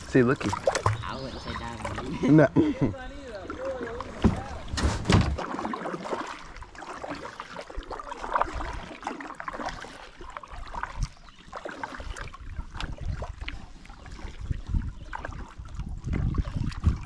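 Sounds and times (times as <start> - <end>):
small splashes and knocks: 0.0 - 2.4, 3.3 - 17.0
creek water trickling: 0.0 - 17.0.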